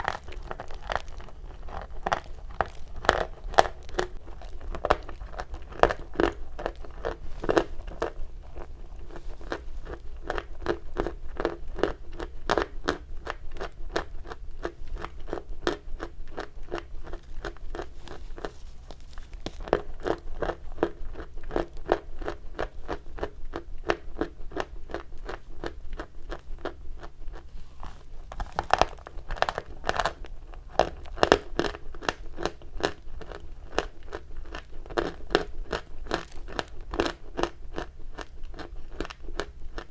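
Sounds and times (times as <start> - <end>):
chalk crunching being chewed: 0.0 - 39.9.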